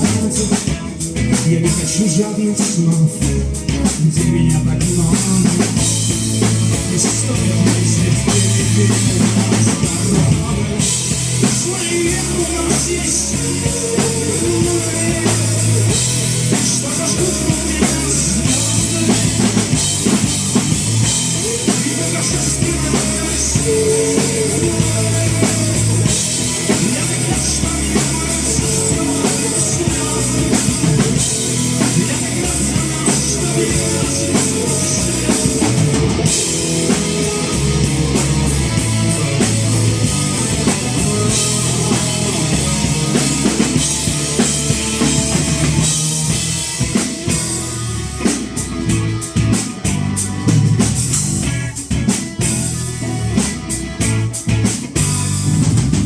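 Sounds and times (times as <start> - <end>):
drum kit: 0.0 - 56.0
guitar: 0.0 - 56.0
rock band playing: 0.0 - 56.0.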